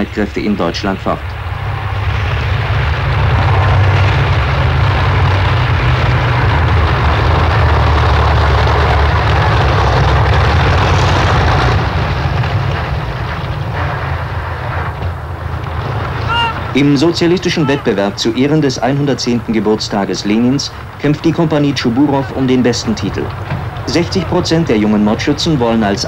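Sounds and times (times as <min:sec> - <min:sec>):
tracked vehicle engine and tracks rumbling: 0:00.0 - 0:26.0.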